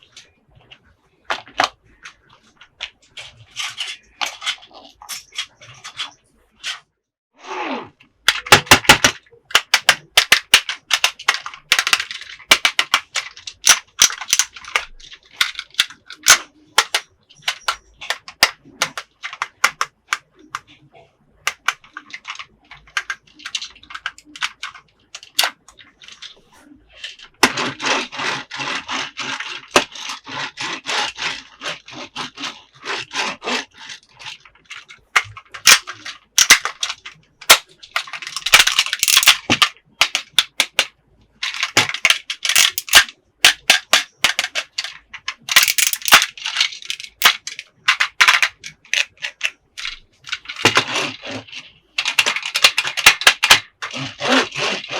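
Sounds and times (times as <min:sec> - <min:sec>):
plastic toy pieces clicking and rattling: 0:01.3 - 0:06.8, 0:08.2 - 0:54.9.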